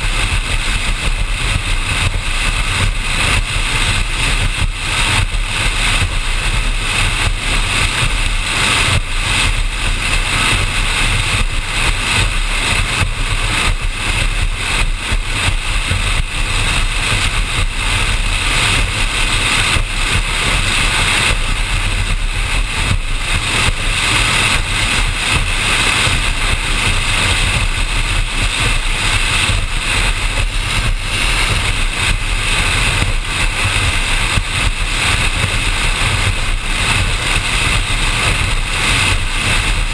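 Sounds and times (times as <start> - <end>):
boat engine drone: 0.0 - 39.9
rushing water: 0.0 - 39.9
wind buffeting microphone: 0.0 - 39.9.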